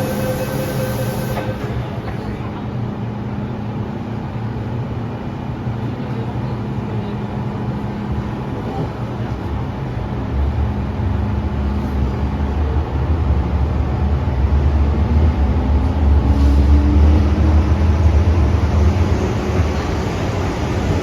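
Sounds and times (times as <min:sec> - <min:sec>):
train rumbling in tunnel: 0:00.0 - 0:21.0.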